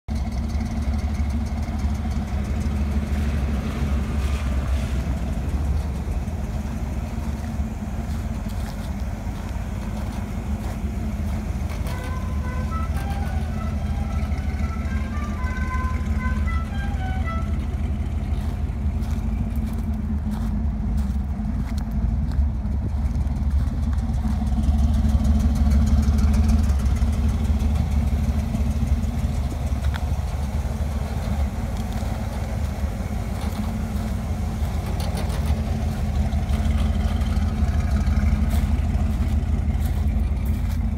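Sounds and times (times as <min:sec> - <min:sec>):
pickup truck engine idling: 0:00.1 - 0:40.9.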